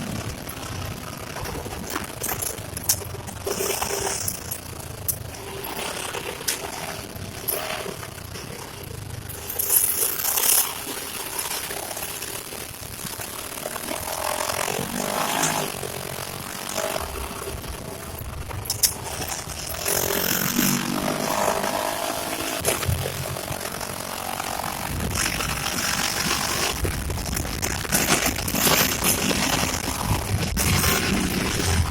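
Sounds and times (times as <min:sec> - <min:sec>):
engine revving: 0:05.2 - 0:31.9.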